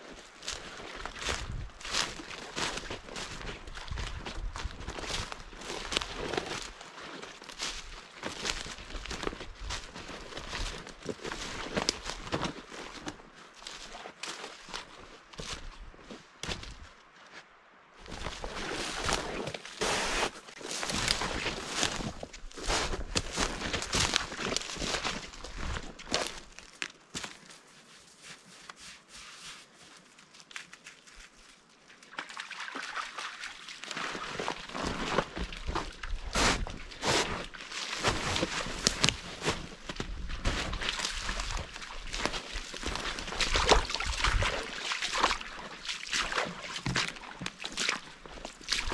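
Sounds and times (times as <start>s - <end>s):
footsteps crunching through undergrowth: 0.0s - 31.8s, 34.0s - 48.9s.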